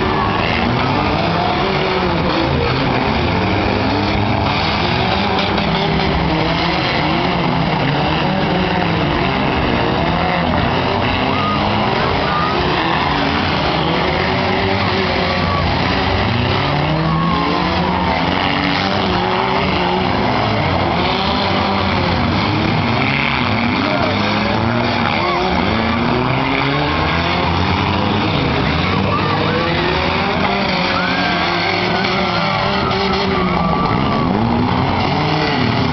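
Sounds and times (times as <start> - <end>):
car engines revving: 0.0 - 35.9.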